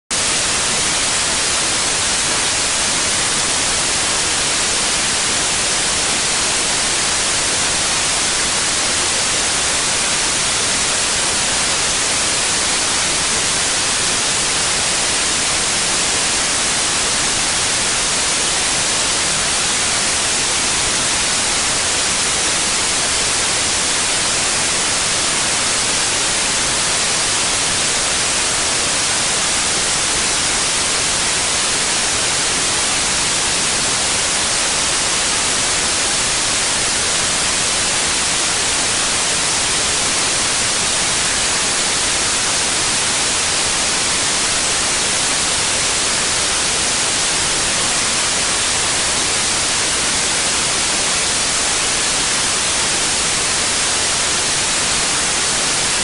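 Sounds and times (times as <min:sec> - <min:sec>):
white noise hiss: 0:00.1 - 0:56.0.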